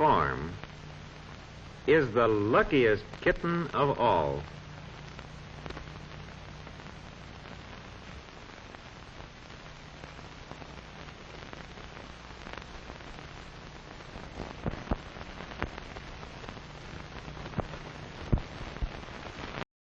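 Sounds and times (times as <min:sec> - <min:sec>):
film soundtrack hiss and hum: 0:00.0 - 0:19.6
crackles and pops: 0:00.0 - 0:19.7.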